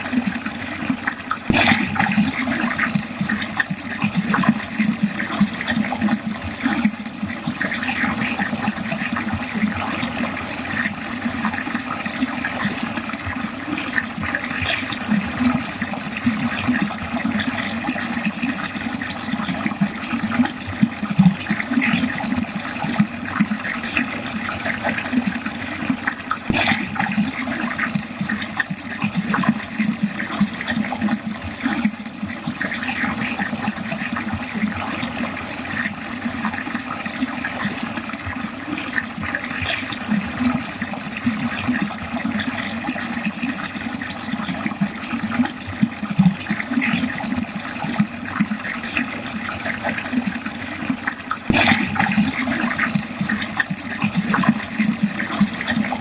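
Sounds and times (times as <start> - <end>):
water gurgling down a drain: 0.0 - 56.0.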